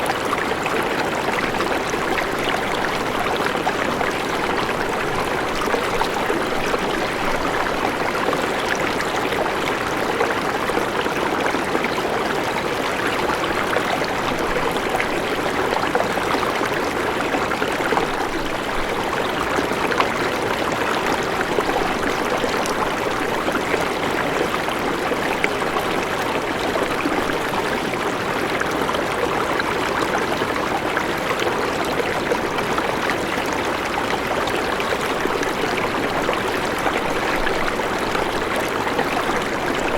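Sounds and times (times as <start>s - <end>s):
water rushing over rocks: 0.1s - 11.8s, 12.5s - 28.4s, 32.5s - 39.9s.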